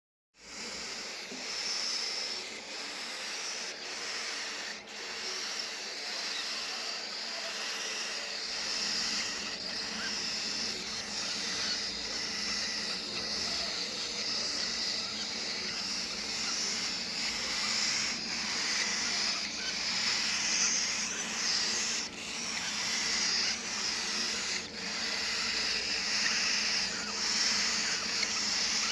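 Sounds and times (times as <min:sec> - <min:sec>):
parrot chicks raspy chatter: 0:00.4 - 0:28.9.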